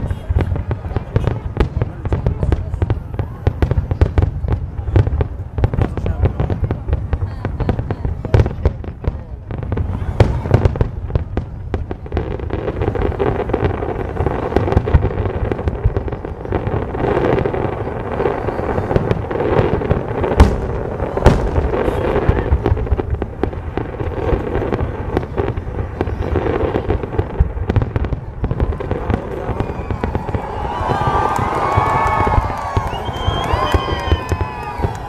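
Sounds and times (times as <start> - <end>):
fireworks bursting and booming: 0.0 - 35.0.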